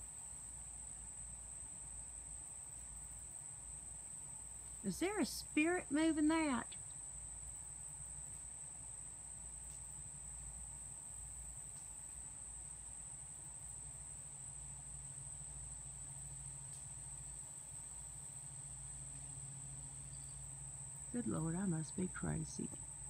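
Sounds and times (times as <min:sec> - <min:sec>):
faint low hum: 0:00.0 - 0:23.0
insects trilling: 0:00.0 - 0:23.0.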